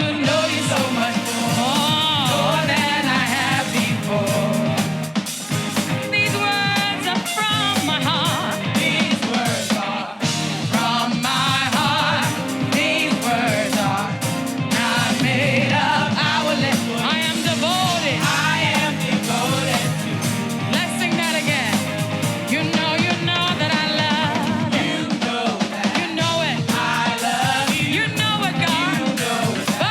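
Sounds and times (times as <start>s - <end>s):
band with drum kit: 0.0s - 29.9s
person singing with vibrato: 0.0s - 29.9s.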